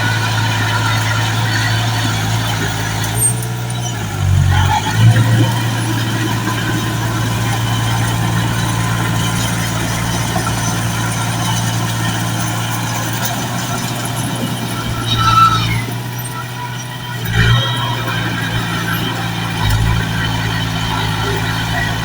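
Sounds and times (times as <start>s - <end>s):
heavy engine idling: 0.0s - 22.0s.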